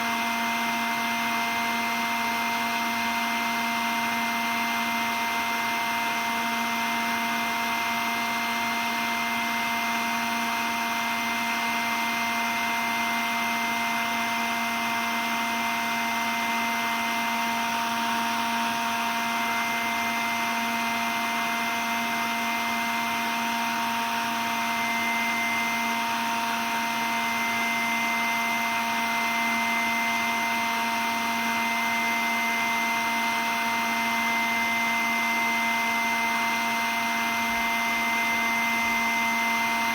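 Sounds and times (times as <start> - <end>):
stick vacuum cleaner whining: 4.5 - 39.9.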